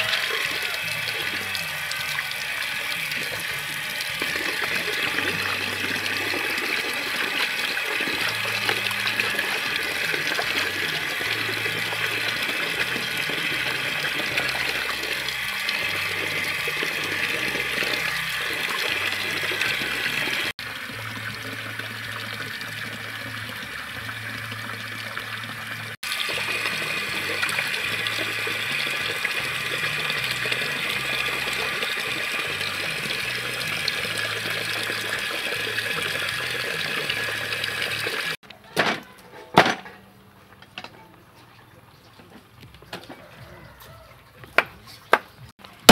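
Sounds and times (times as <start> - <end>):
tap water pouring into basin: 0.0 - 38.4.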